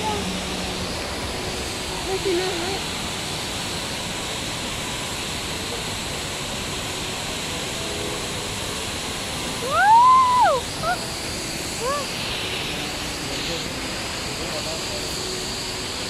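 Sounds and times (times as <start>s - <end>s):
indoor waterfall rushing: 0.0s - 16.0s.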